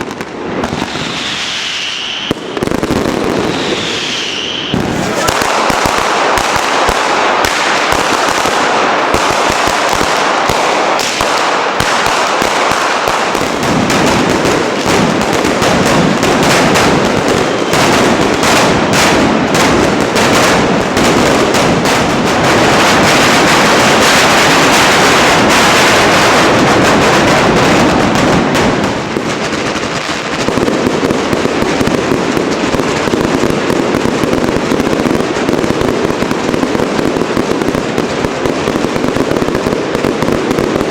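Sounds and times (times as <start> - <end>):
fireworks cracking and popping: 0.0 - 40.9.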